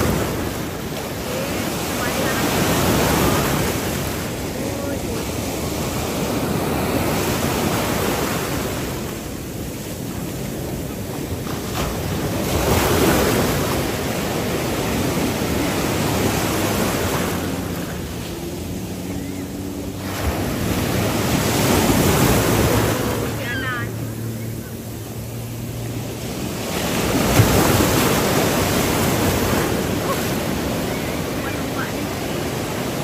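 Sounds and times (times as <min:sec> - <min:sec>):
faint jet ski engine: 0:00.0 - 0:33.0
surf breaking: 0:00.0 - 0:33.0.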